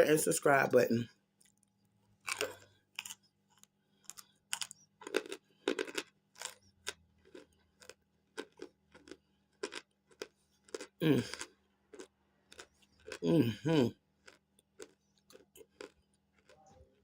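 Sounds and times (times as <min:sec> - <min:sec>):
chewing crunchy food: 0:01.4 - 0:17.0.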